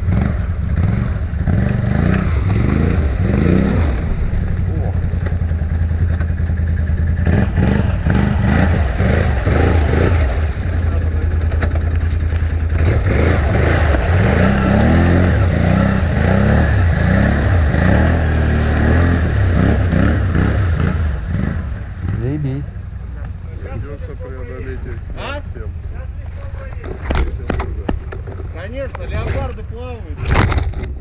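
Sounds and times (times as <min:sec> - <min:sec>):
atv engine revving under load: 0:00.0 - 0:26.0.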